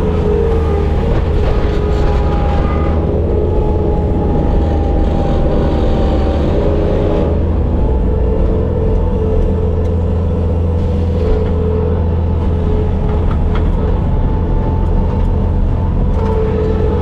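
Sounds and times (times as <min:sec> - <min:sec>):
diesel engine running: 0:00.0 - 0:17.0
steady whine: 0:00.0 - 0:17.0.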